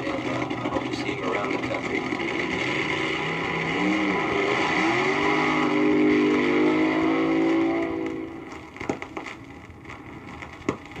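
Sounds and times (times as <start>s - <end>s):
dragster engine revving: 0.0s - 9.4s.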